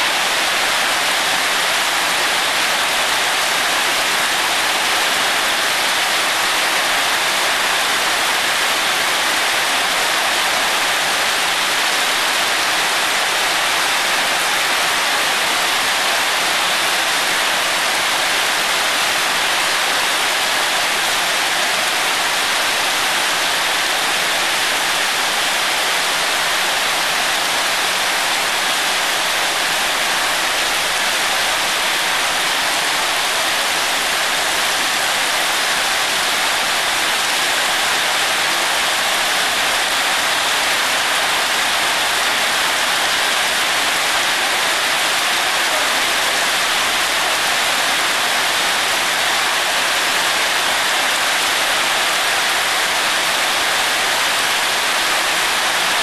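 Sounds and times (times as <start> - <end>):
heavy rain falling: 0.0 - 56.0
water streaming onto wet paving: 0.0 - 56.0.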